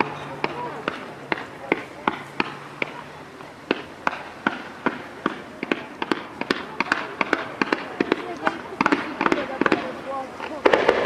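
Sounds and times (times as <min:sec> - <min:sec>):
fireworks popping: 0:00.0 - 0:11.0.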